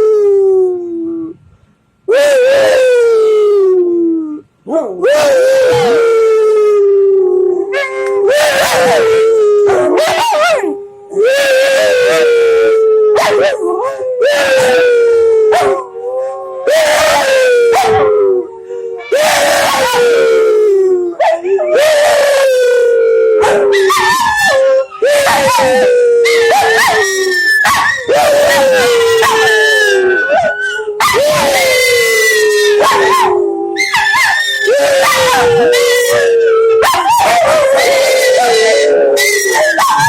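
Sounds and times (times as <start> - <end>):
dogs howling: 2.1 - 40.0.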